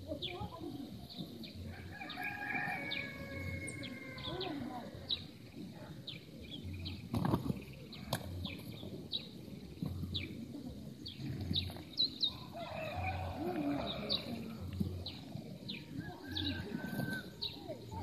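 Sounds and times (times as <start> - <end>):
roosters fighting: 1.2 - 18.0.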